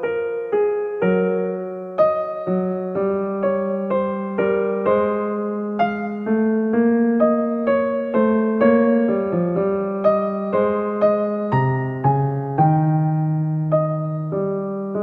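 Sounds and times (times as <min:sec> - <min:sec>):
gentle keyboard melody: 0:00.0 - 0:15.0.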